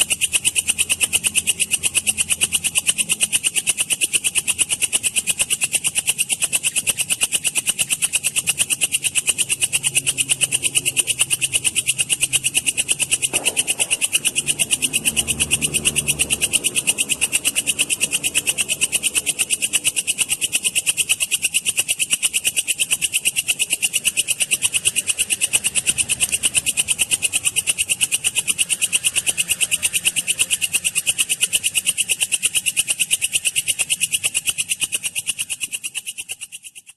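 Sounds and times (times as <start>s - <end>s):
bush cricket stridulating: 0.0s - 36.9s.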